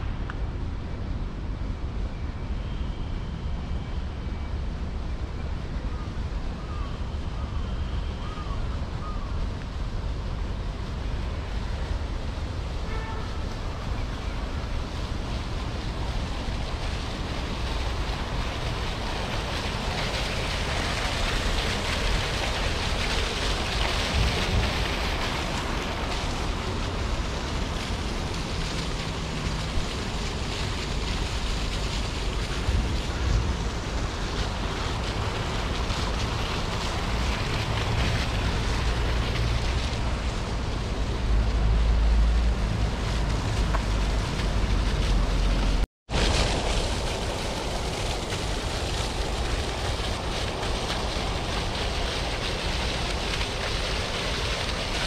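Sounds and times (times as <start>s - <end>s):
traffic noise: 0.0s - 55.0s
wind buffeting microphone: 8.8s - 55.0s.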